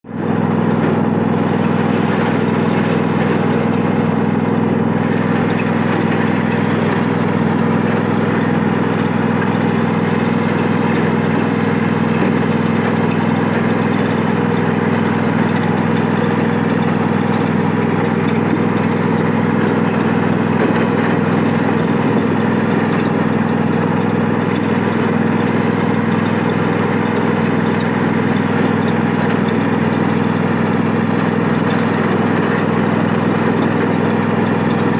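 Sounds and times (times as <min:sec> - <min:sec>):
lawn mower engine droning: 0:00.0 - 0:34.9.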